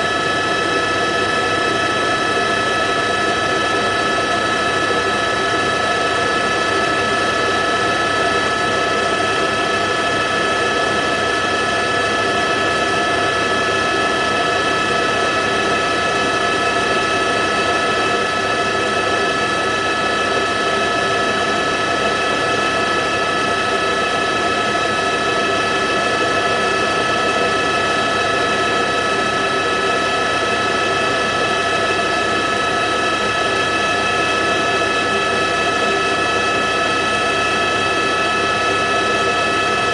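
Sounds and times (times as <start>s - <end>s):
helicopter whine and rotor noise: 0.0s - 39.9s.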